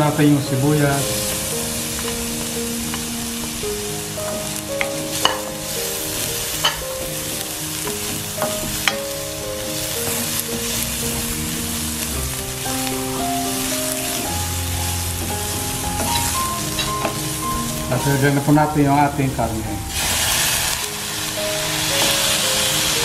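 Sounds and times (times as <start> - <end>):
garlic sizzling in a skillet: 0.0 - 18.7, 19.4 - 23.0.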